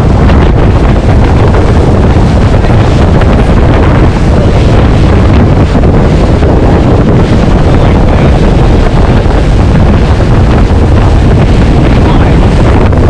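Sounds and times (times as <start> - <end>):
boat engine rushing: 0.0 - 13.0
water rushing under boat: 0.0 - 13.0
wind buffeting microphone: 0.0 - 13.0.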